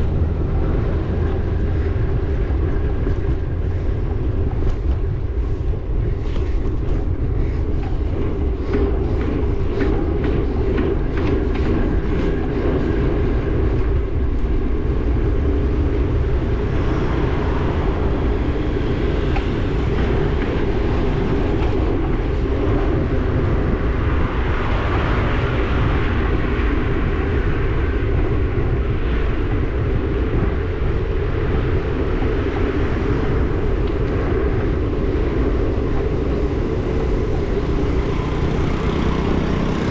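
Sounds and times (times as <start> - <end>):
bike road rumble: 0.0 - 39.9
wind rushing over microphone: 0.0 - 39.9.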